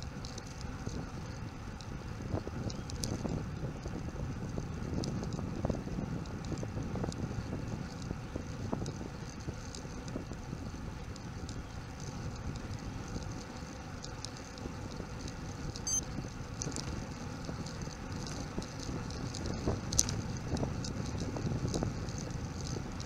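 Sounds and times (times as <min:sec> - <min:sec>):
wind noise on microphone: 0:00.0 - 0:13.5, 0:14.6 - 0:23.0
bicycle tyre rumble on asphalt: 0:00.0 - 0:23.0.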